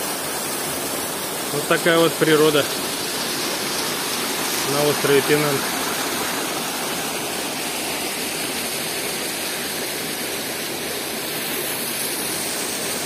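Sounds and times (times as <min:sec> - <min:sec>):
stream water rushing over rocks: 0:00.0 - 0:13.0.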